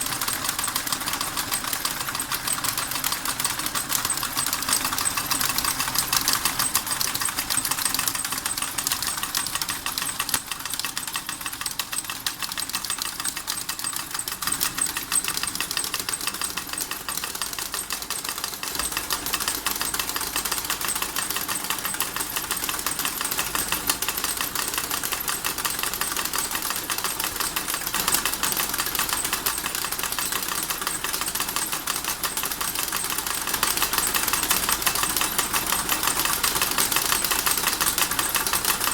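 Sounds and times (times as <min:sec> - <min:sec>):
model steam engine clattering: 0:00.0 - 0:38.9.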